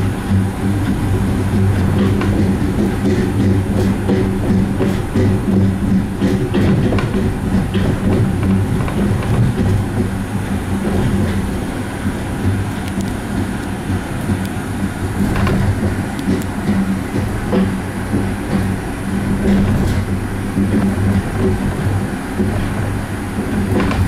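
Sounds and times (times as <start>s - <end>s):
gondola hum and rumble: 0.0s - 24.0s.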